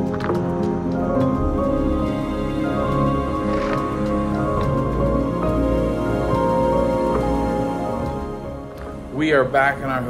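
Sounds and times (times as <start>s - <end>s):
slow background music: 0.0s - 10.0s.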